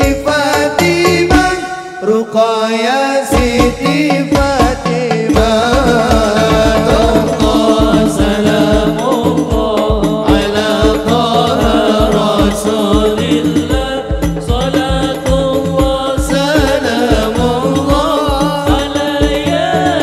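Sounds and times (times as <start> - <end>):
frame drums beating: 0.0 - 2.2, 3.3 - 20.0
men chanting in unison: 0.0 - 20.0.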